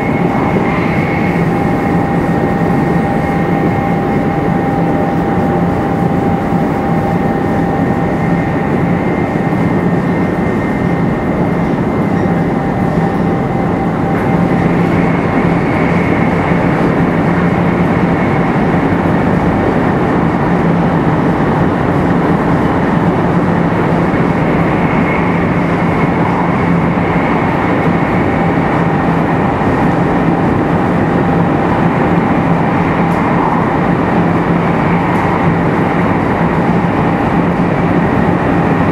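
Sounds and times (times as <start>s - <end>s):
faint whining tones: 0.0s - 38.9s
rumble of train wheels and air: 0.0s - 38.9s.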